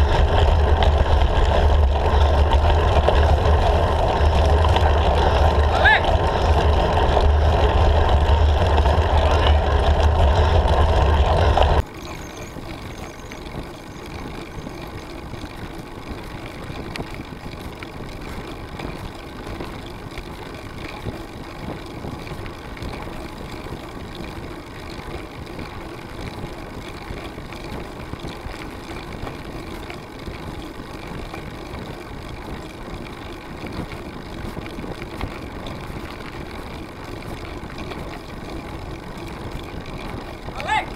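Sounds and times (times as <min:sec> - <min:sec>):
bike riding noise rush: 0:00.0 - 0:40.9
wind buffeting microphone: 0:00.0 - 0:40.9.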